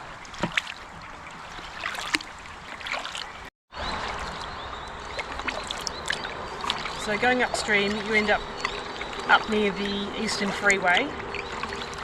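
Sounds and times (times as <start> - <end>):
water dripping off paddle: 0.0 - 3.5, 4.1 - 12.0
small water splashes: 0.0 - 12.0.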